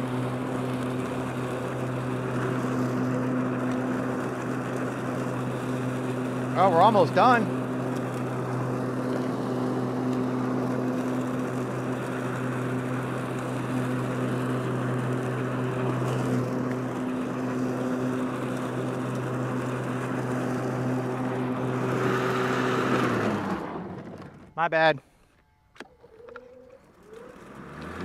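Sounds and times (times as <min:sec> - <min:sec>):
lawn mower motor humming: 0:00.0 - 0:24.6, 0:25.3 - 0:28.0.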